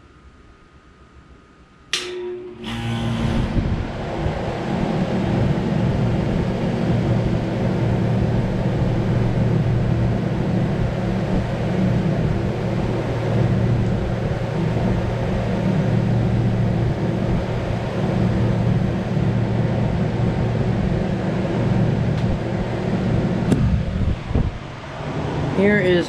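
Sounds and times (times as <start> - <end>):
air conditioner humming: 0.0 - 26.0.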